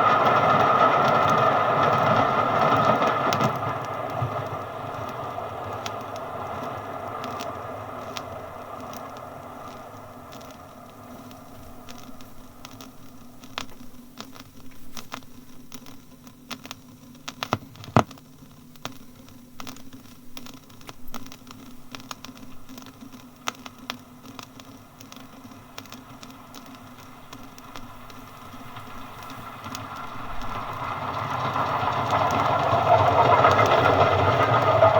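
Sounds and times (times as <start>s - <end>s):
faint hum and hiss: 0.0s - 34.9s
record crackles and pops: 0.0s - 34.9s.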